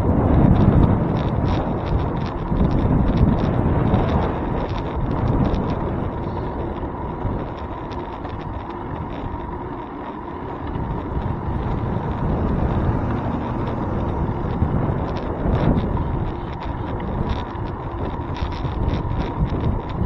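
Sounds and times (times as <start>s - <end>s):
bicycle rolling on road: 0.0s - 20.0s
wind buffeting microphone: 0.0s - 20.0s
small ticks and rattles: 0.1s - 20.0s.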